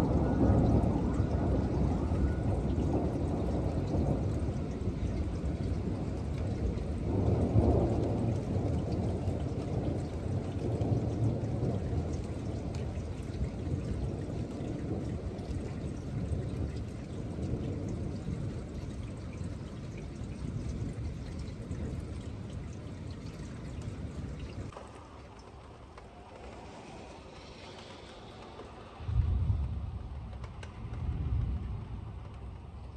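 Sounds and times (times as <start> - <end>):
rain falling: 0.0 - 32.9
rolling thunder: 0.0 - 32.9.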